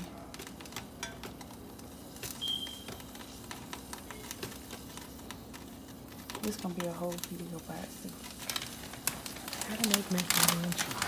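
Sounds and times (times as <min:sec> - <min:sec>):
butter crackling and sizzling: 0:00.0 - 0:11.0
utensil stirring in saucepan: 0:00.0 - 0:11.0.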